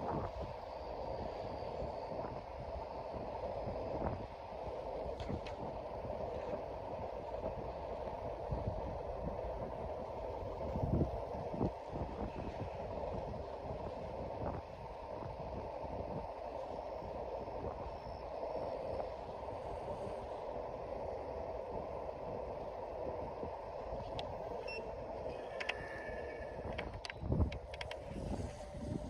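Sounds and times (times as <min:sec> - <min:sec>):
electric scooter road rumble: 0:00.0 - 0:29.0.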